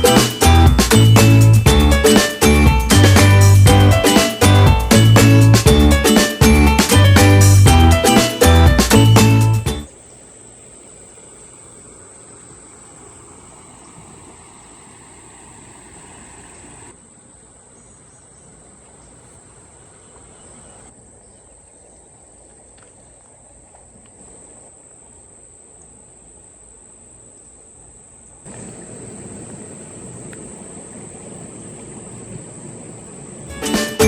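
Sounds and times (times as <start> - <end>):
faint outdoor background noise: 0.0 - 34.0
insects chirping chorus: 0.0 - 34.0.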